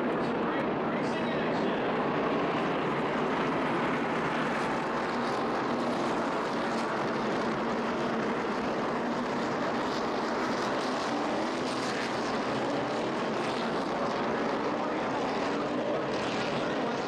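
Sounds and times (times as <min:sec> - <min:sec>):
race car engines on track: 0:00.0 - 0:17.0.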